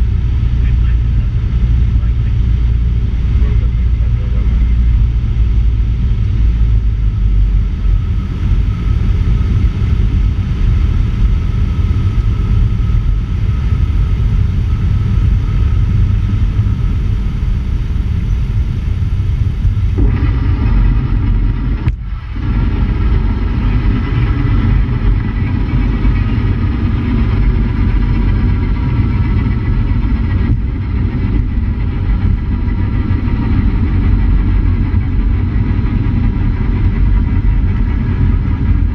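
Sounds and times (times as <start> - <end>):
light aircraft engine: 0.0 - 38.9
rushing airflow: 0.0 - 38.9.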